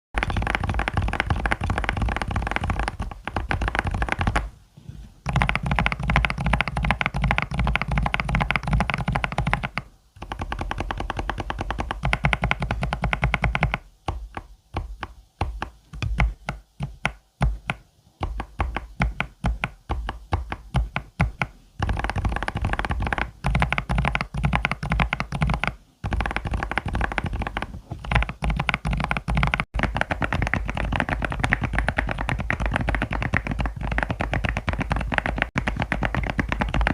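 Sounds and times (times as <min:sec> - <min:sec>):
typing on mechanical keyboard: 0:00.2 - 0:04.5, 0:05.3 - 0:14.4, 0:15.5 - 0:36.9.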